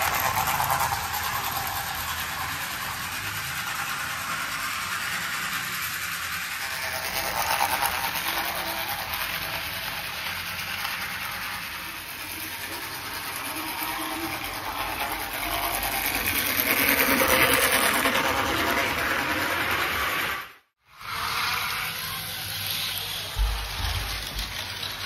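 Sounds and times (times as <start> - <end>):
toy trains rattling on track: 0.0 - 25.0.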